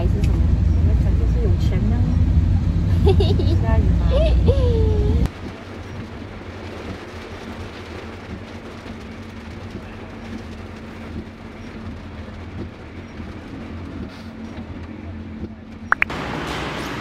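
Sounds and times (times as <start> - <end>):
car cabin road noise: 0.0 - 17.0.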